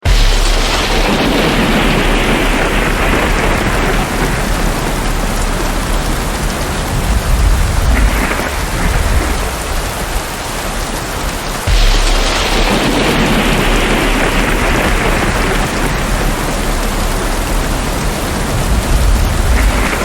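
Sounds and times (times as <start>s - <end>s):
steady rain: 0.0s - 20.0s
low rumble of thunder: 0.1s - 20.0s.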